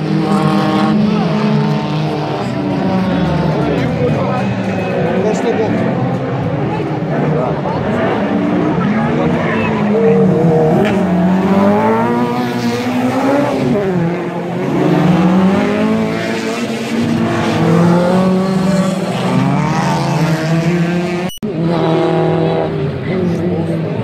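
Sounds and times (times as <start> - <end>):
race car engines revving past: 0.0 - 24.0.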